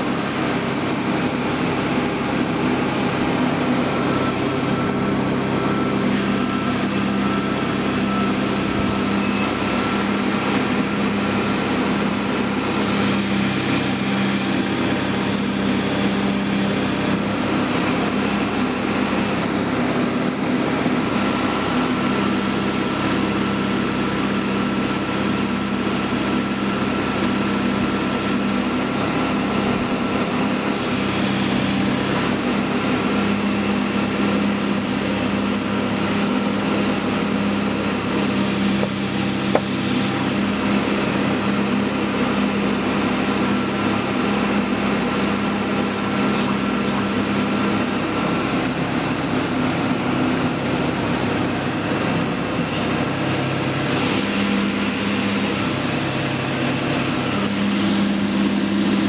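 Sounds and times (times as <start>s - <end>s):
drill rig running: 0.0s - 59.0s.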